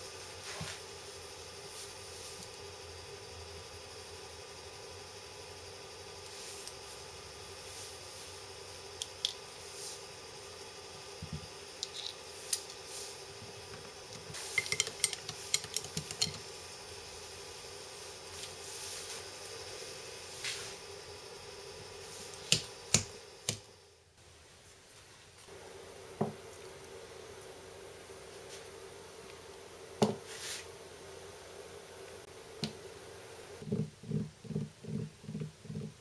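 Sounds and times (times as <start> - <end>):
steady hum: 0.0 - 24.8, 25.4 - 36.0.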